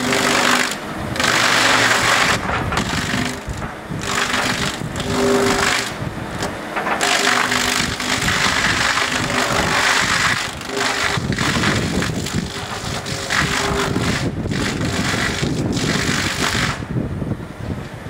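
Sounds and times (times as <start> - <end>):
wood chipping and grinding: 0.0 - 16.9
low machine hum: 0.0 - 18.0.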